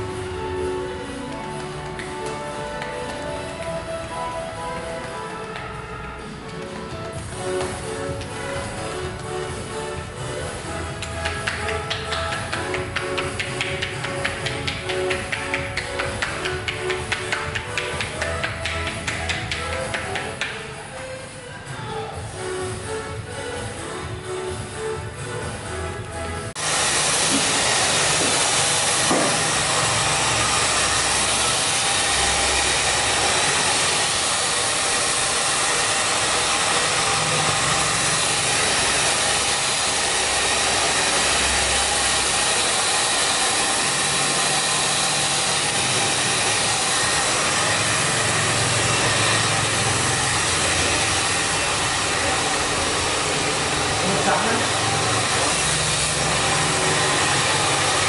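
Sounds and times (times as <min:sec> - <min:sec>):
hair dryer blowing: 0:00.0 - 0:20.7, 0:22.2 - 0:58.0.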